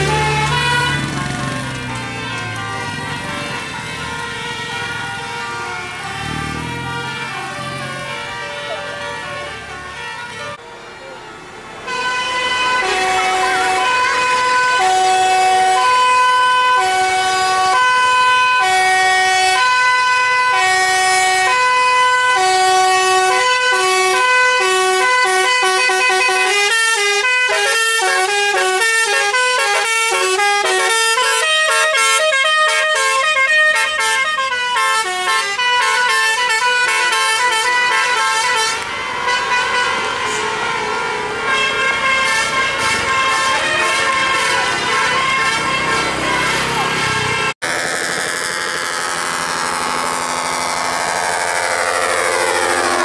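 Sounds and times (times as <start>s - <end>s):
multi-tone horn playing a tune: 0.0s - 10.6s, 11.9s - 53.0s.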